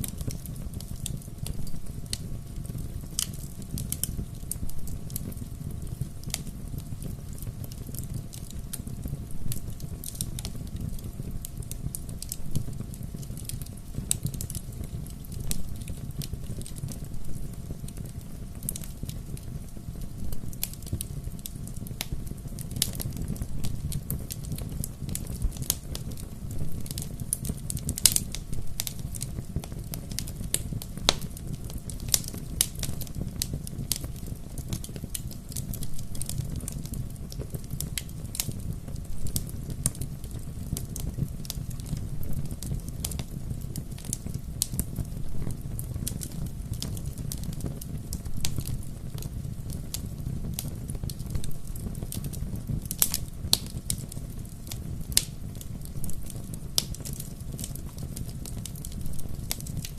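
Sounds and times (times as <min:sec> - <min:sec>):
low rumble of flames: 0:00.0 - 0:59.9
wood fire crackling and popping: 0:00.0 - 0:59.9.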